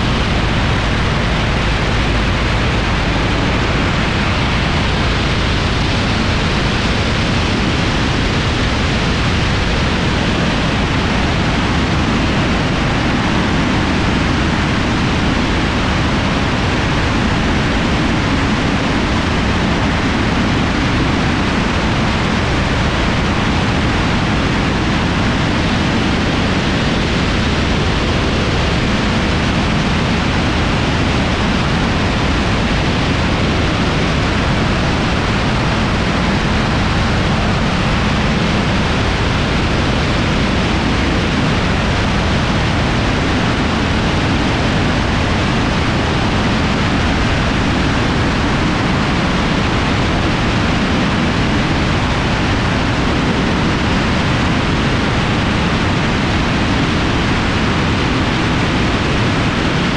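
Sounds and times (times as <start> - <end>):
airflow roaring over camera: 0.0 - 59.9.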